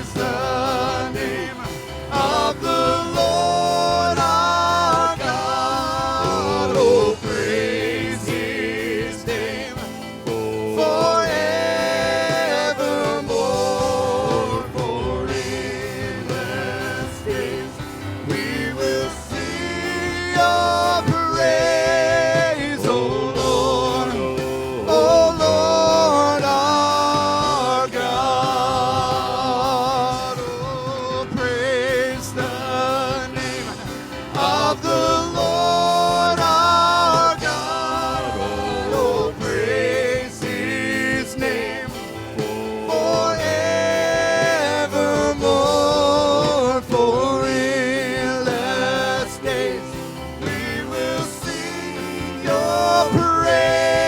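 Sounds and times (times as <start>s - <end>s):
band accompaniment: 0.0s - 54.0s
person singing with vibrato: 0.0s - 54.0s.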